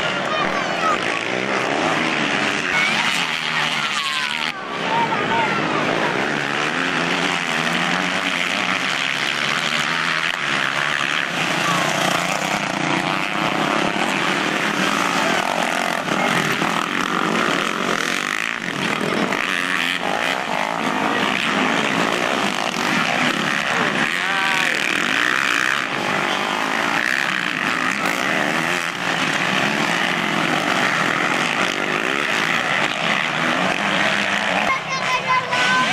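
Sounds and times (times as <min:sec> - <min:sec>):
motorcycle engines revving: 0:00.0 - 0:35.9.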